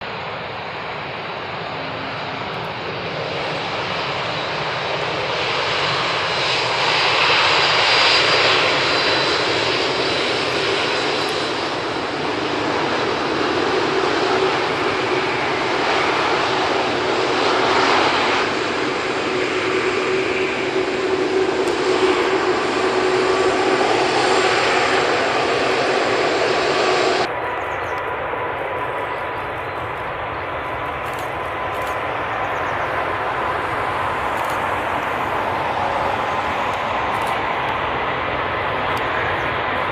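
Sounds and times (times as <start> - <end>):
faint drone: 0.0 - 39.9
jet engines at takeoff power: 0.0 - 39.9.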